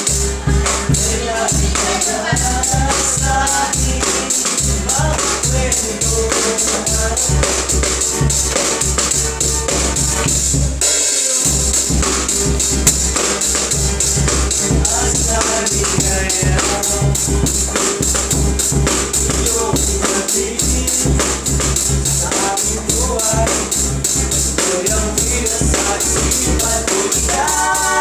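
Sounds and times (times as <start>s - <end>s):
drums keeping a beat: 0.0s - 28.0s.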